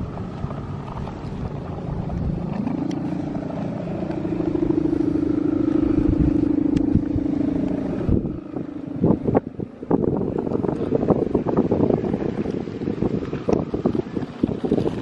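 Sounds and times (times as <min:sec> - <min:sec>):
kite hummer droning: 0:00.0 - 0:15.0
wind rumble on microphone: 0:00.0 - 0:15.0.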